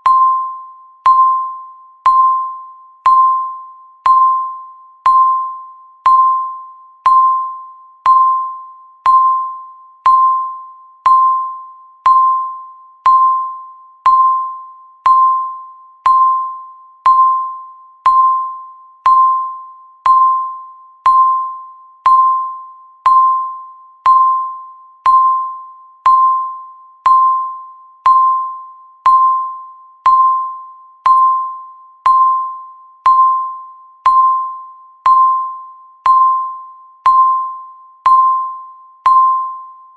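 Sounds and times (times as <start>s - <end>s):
timer ding ticks: 0.0s - 39.9s.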